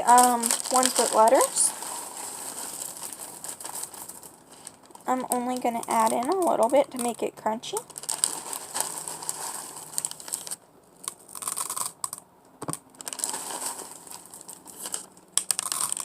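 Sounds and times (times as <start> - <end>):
foam beads clicking and rustling: 0.0 - 16.0.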